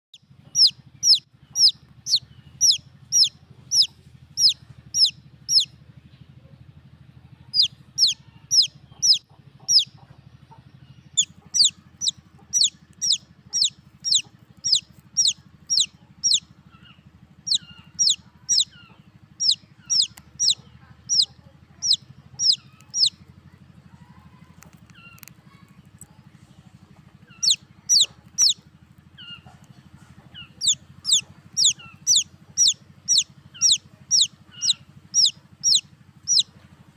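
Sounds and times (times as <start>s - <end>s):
baby chicks peeping: 0.2s - 6.3s, 7.2s - 36.9s.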